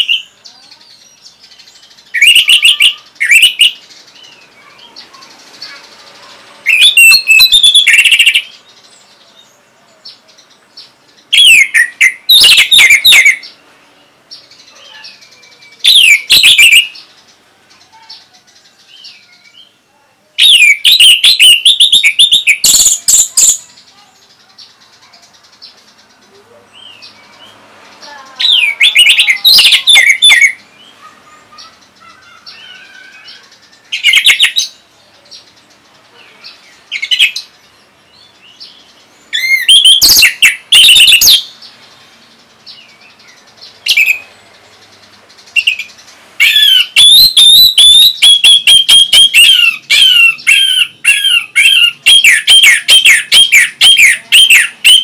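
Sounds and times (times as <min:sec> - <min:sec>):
thrush singing whistled notes: 0:00.0 - 0:19.8, 0:20.4 - 0:55.0.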